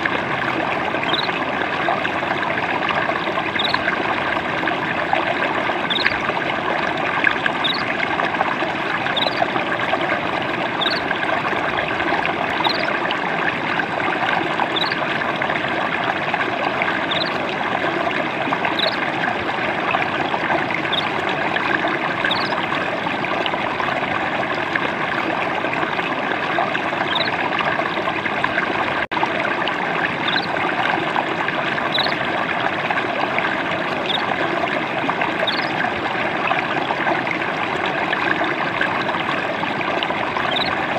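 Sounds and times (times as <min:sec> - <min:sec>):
water trickling over stream: 0:00.0 - 0:40.9.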